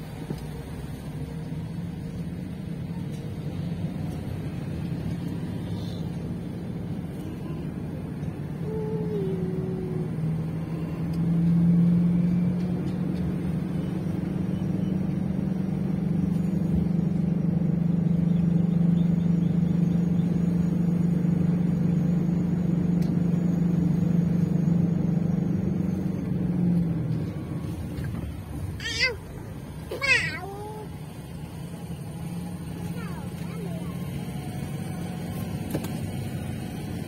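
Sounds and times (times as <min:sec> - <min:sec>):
car engine and tyre drone: 0:00.0 - 0:37.0.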